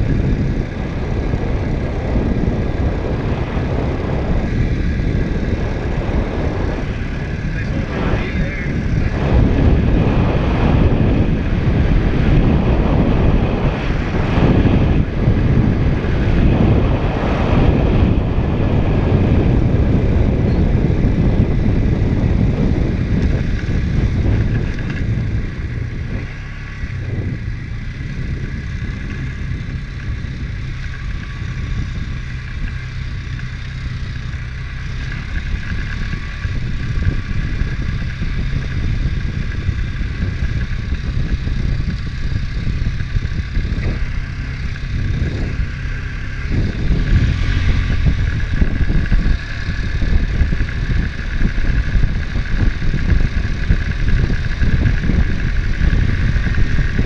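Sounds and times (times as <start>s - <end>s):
quad engine rumbling: 0.0s - 57.0s.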